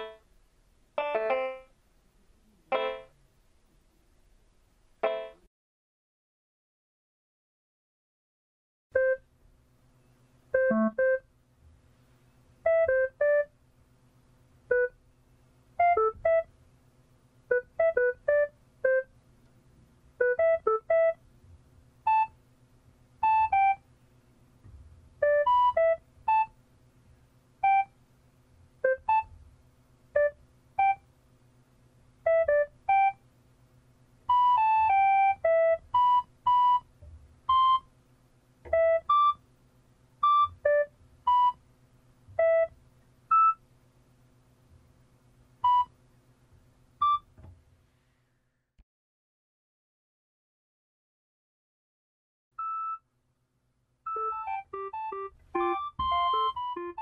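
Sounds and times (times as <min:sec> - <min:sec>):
faint steady hum: 0:00.0 - 0:05.5, 0:08.9 - 0:48.8, 0:52.6 - 0:57.0.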